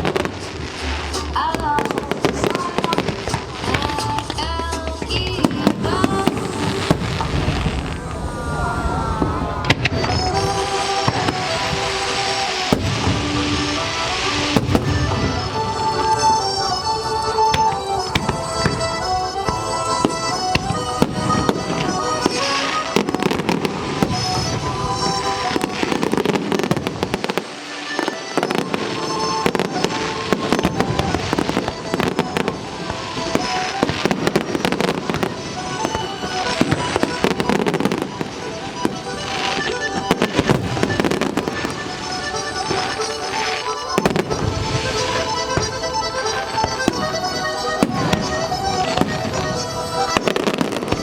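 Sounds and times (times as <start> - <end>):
music from loudspeakers: 0.0 - 7.9, 9.6 - 51.0
fireworks bangs and crackles: 0.0 - 51.0.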